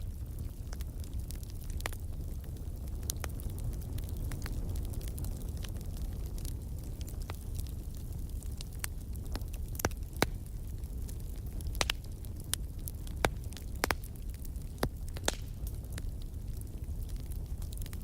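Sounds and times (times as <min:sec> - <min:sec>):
fire flames rumbling: 0:00.0 - 0:18.0
fire popping: 0:00.0 - 0:18.0.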